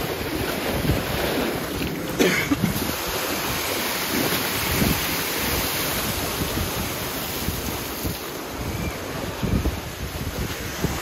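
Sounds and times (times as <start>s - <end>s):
rushing whitewater: 0.0s - 11.0s
wind buffeting microphone: 0.0s - 11.0s.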